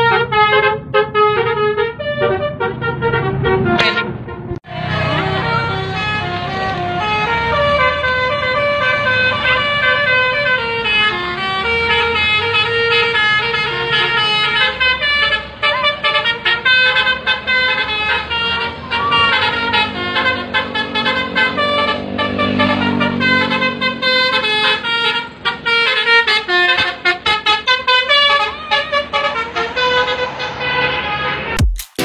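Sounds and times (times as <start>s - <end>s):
musical bus horn melody: 0.0s - 31.6s.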